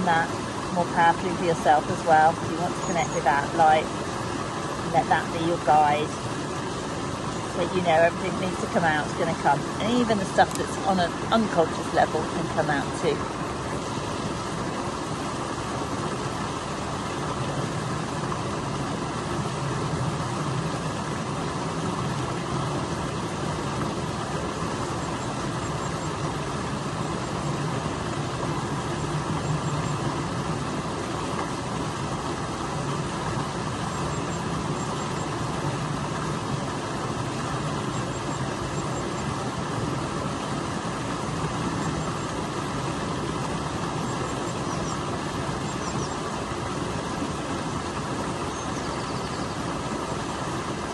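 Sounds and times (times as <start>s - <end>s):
water rushing over waterfall: 0.0s - 50.9s.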